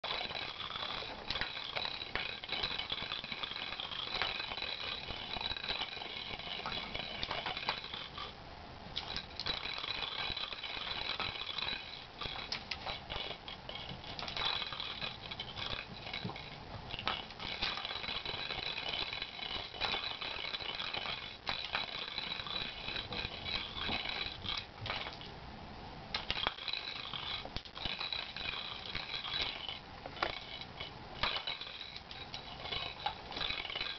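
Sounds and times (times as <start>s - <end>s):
ball rattling around plastic track: 0.0s - 8.3s, 9.0s - 25.2s, 26.2s - 33.9s.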